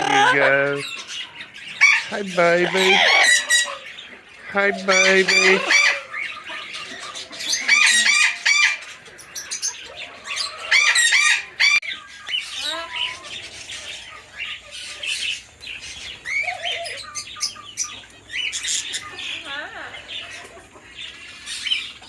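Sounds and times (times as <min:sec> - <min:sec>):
caged birds chirping and squawking: 0:00.0 - 0:22.0.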